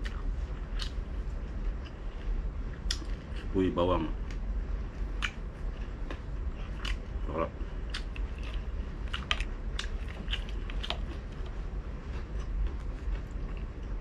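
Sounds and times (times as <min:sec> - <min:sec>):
crunchy chewing: 0:00.0 - 0:03.5, 0:05.0 - 0:14.0.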